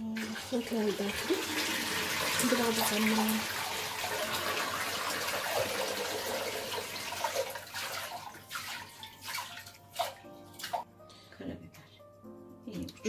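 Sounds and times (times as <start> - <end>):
water running from tap: 0.0 - 10.9
faint background music: 0.0 - 13.0.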